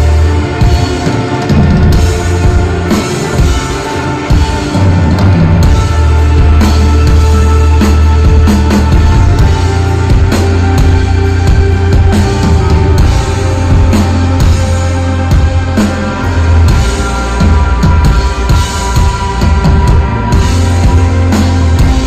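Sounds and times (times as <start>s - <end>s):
live rock band: 0.0s - 22.0s.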